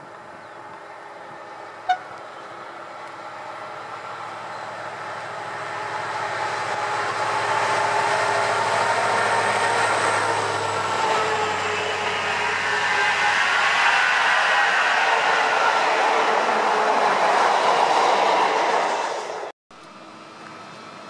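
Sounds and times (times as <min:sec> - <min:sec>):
diesel locomotives passing: 0:00.0 - 0:21.0.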